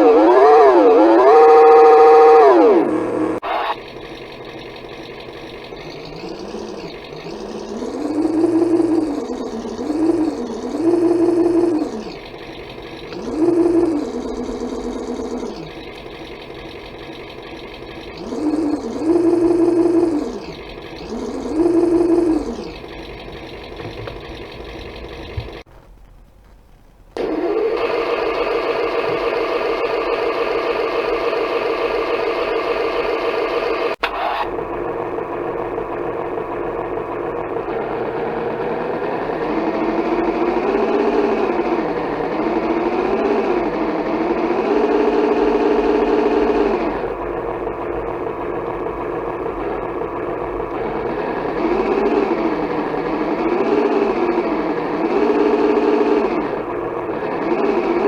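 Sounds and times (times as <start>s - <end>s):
simulated engine sound from speaker: 0.0s - 25.7s, 27.2s - 58.0s.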